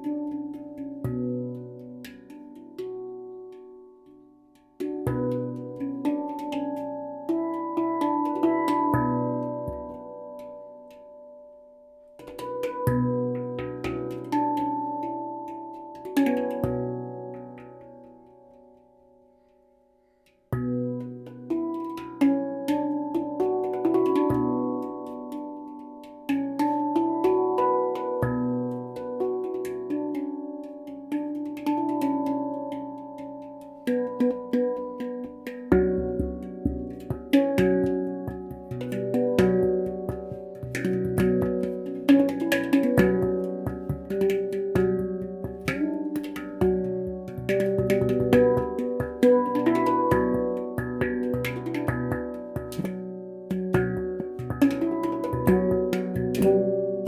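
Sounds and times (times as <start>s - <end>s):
handpan melody: 0.0s - 57.0s.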